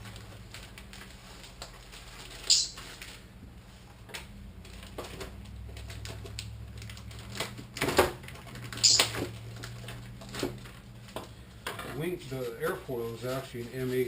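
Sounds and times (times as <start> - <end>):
steady low hum: 0.0 - 14.0
taps knocks and crinkles of handling: 0.0 - 14.0.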